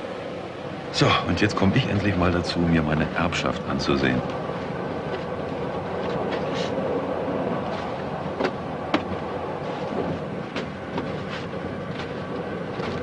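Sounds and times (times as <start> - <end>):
moving train running noise: 0.0 - 13.0.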